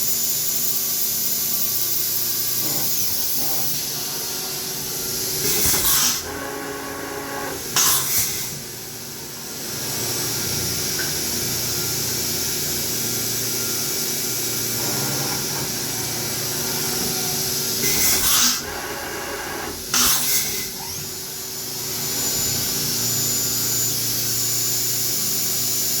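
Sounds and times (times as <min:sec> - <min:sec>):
milling machine spindle hiss: 0:00.0 - 0:09.1, 0:11.5 - 0:25.7.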